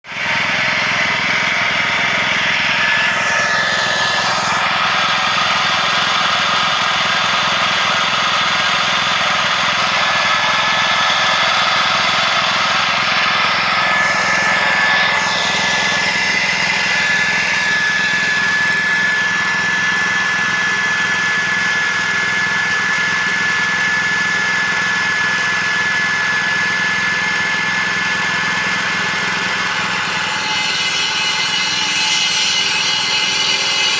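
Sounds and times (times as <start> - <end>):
machine running: 0.1 - 33.9.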